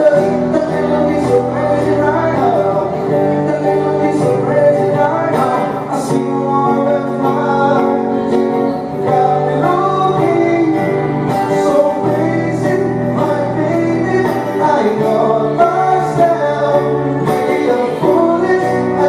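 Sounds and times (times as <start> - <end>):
guitar playing: 0.0 - 19.0
man singing: 0.0 - 19.0.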